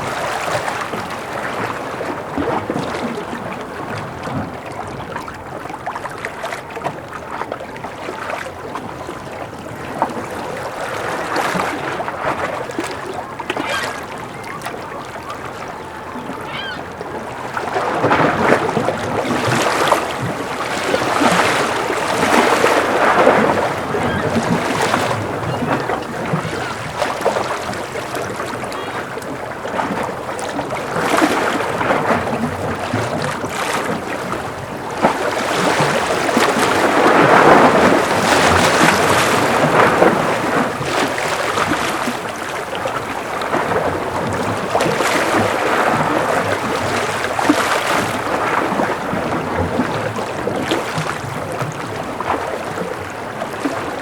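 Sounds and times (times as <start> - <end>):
sea waves lapping: 0.0 - 54.0.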